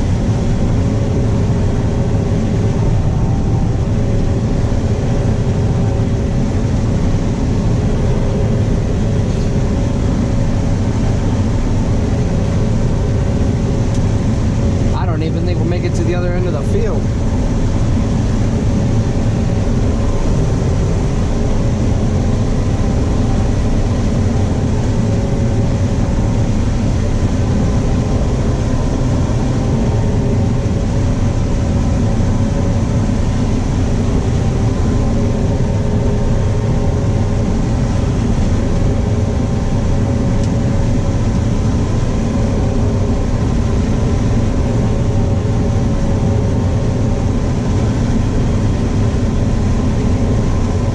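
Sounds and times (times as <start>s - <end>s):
combine engine and threshing drone: 0.0s - 50.9s.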